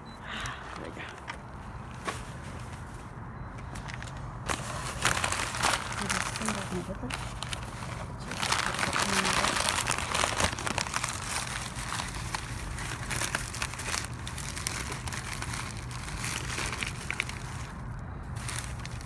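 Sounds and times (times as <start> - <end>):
plastic and paper crinkling: 0.8 - 19.0.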